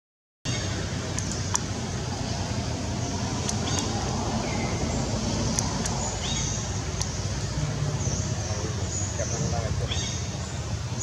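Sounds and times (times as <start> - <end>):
outdoor background rumble and hiss: 0.5 - 11.0.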